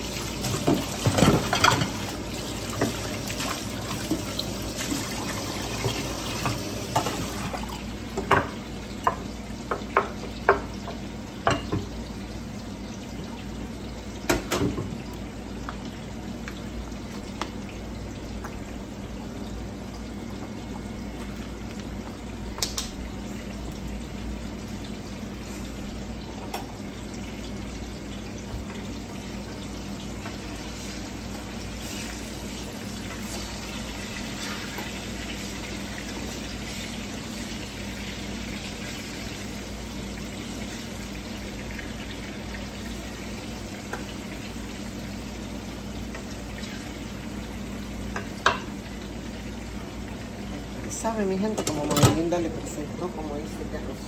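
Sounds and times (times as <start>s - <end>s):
rice bubbling in pan: 0.0s - 51.0s
frying sizzle: 0.0s - 54.0s.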